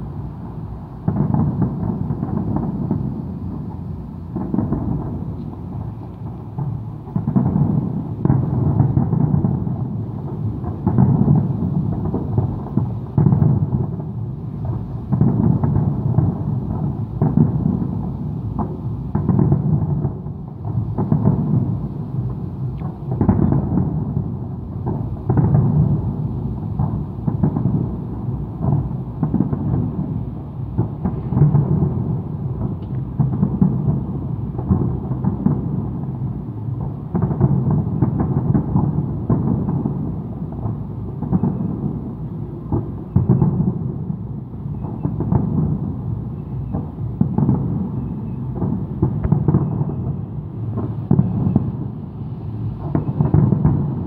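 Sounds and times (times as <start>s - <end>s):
fireworks cracks: 0.0s - 36.2s, 36.8s - 54.0s
distant fireworks booms: 0.0s - 54.0s.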